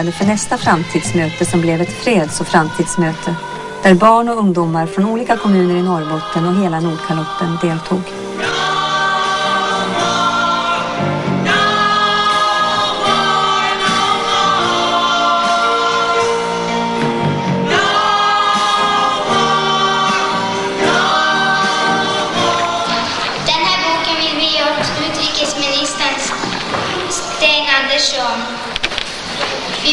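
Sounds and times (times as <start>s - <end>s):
mixed choir singing: 0.0s - 25.0s.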